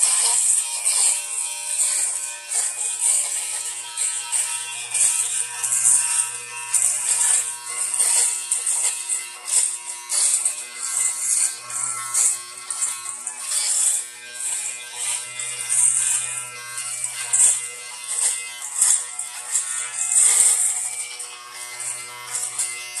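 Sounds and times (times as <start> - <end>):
electric shaver buzzing: 0.0 - 23.0.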